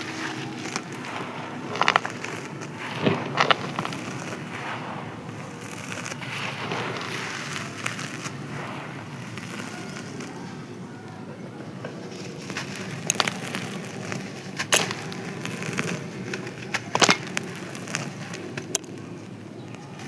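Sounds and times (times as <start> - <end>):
dry sand-cement crumbling: 0.0 - 20.0.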